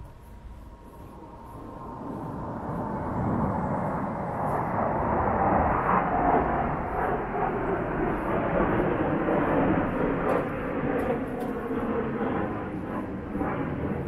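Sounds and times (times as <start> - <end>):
fighter jet engine roar: 0.0 - 14.0.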